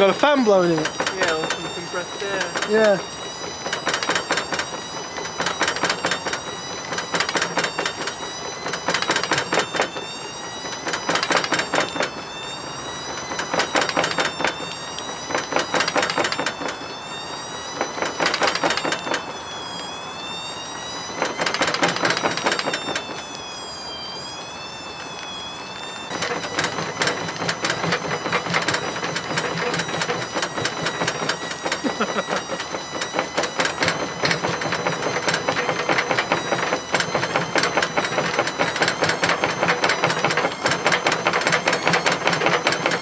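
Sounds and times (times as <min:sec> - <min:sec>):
washing machine motor whining: 0:00.0 - 0:43.0.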